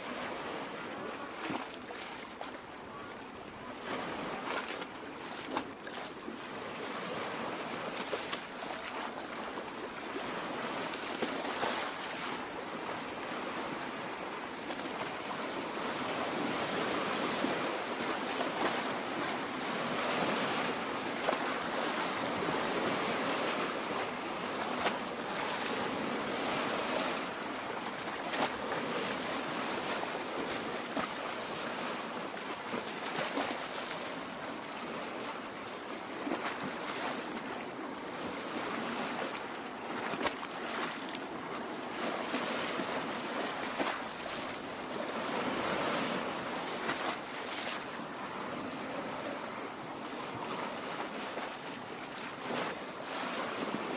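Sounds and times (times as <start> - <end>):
small waves lapping at shore: 0.0 - 53.9.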